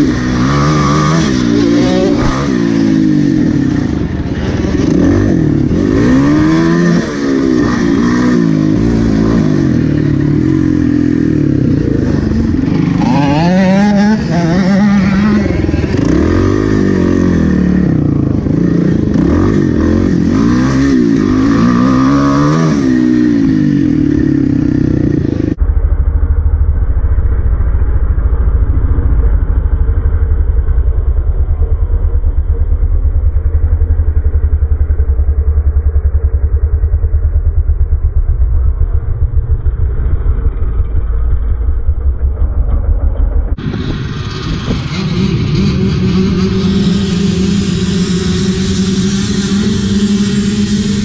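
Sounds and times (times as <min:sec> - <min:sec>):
dirt bike engine revving: 0:00.0 - 0:25.8, 0:28.7 - 0:51.0.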